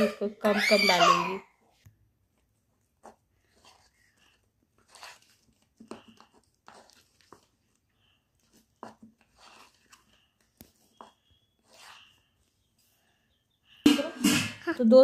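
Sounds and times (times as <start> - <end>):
spoon beating batter: 1.6 - 14.3.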